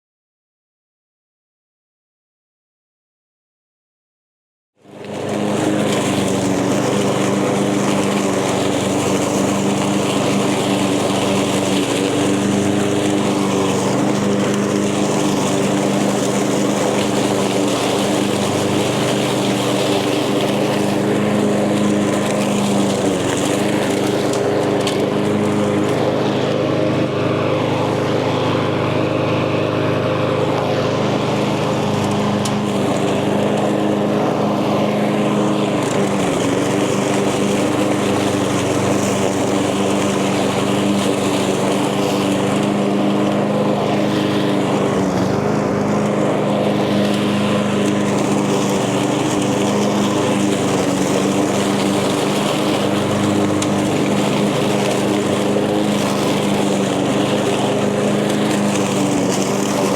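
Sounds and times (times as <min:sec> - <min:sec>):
lawn mower engine running: 0:04.8 - 0:59.9.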